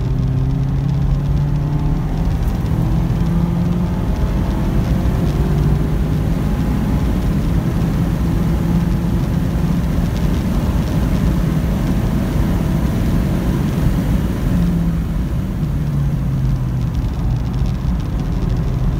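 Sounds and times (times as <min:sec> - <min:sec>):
car engine running hard: 0:00.0 - 0:18.9
road roar: 0:00.0 - 0:18.9
wind noise: 0:00.0 - 0:18.9.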